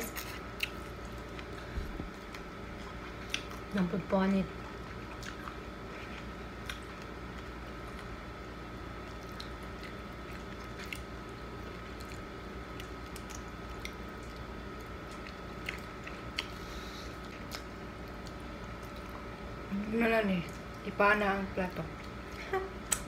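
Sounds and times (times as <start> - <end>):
close-up chewing: 0.0 - 3.8, 4.5 - 19.5
low hum with thin whine: 0.0 - 23.0.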